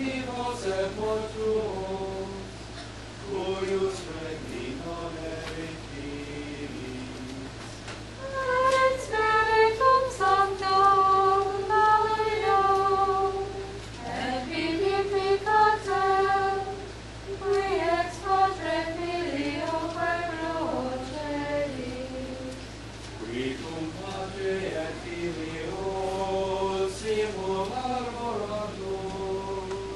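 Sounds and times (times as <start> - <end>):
voices singing in unison: 0.0 - 29.9.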